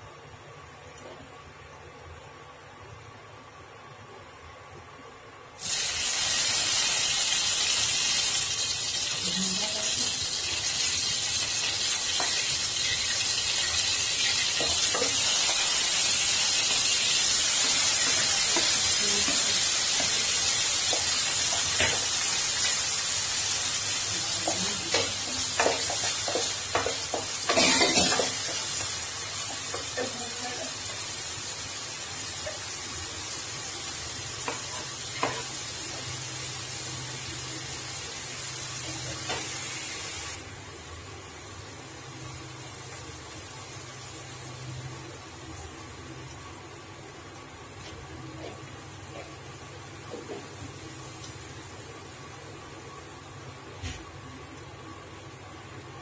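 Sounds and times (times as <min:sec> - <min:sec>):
vegetables sizzling in hot oil: 0:05.6 - 0:53.4.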